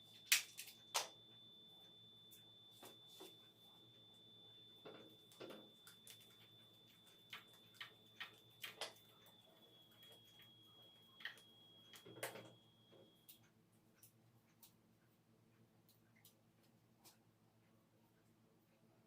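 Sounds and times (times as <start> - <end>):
faint clicks and taps: 0.2 - 19.0.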